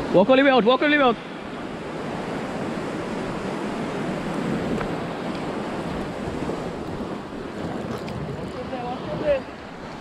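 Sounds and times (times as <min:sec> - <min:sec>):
waves washing onto beach: 0:00.0 - 0:10.0
wind on microphone: 0:01.6 - 0:10.0.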